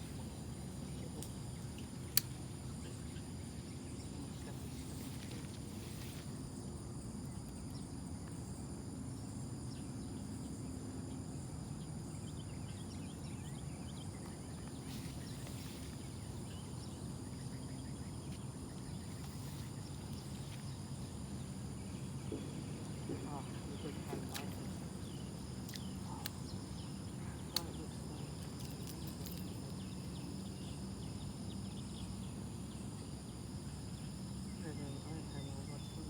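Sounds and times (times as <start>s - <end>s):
insects buzzing: 0.0s - 36.0s.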